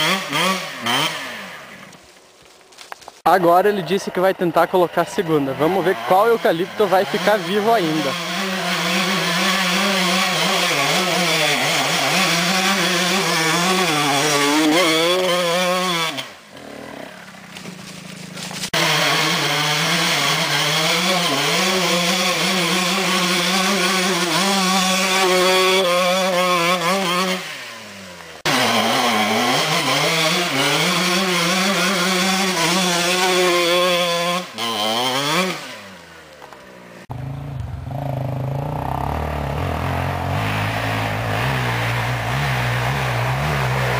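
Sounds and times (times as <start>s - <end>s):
motorcycle engine revving: 0.0s - 1.9s, 3.6s - 43.9s.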